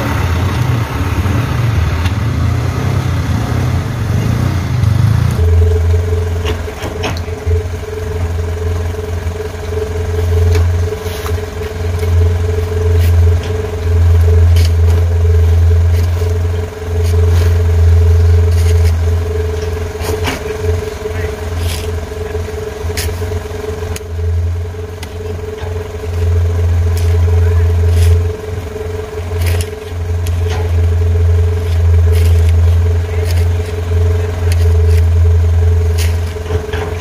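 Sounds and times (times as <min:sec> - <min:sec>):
diesel truck engine: 0:00.0 - 0:37.0
low hum: 0:00.0 - 0:37.0.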